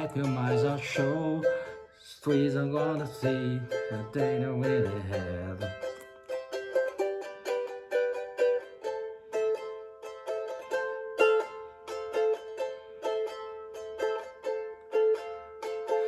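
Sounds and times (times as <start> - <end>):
ukulele strummed in chords: 0.0 - 16.0.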